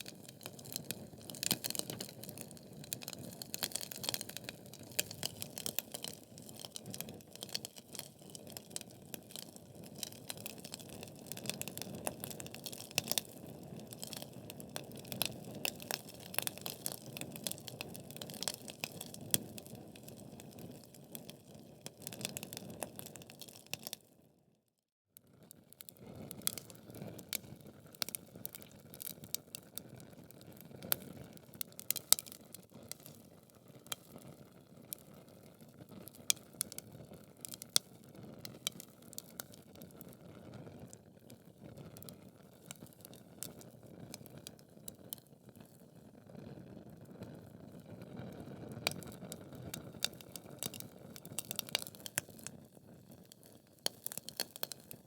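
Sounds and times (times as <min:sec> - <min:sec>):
wood fire crackling and popping: 0:00.0 - 0:24.0, 0:25.9 - 0:45.8, 0:47.4 - 0:55.0.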